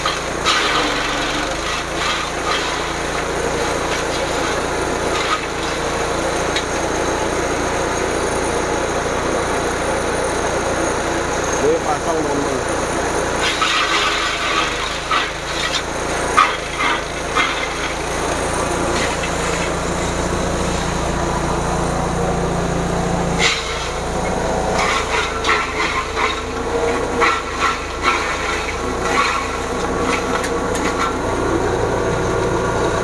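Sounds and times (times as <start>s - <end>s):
forage chopper motor running: 0.0s - 33.0s.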